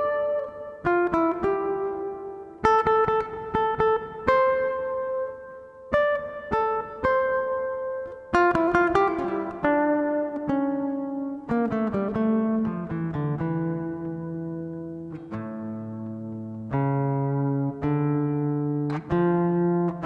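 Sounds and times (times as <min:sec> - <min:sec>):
acoustic guitar picking melody: 0:00.0 - 0:20.0.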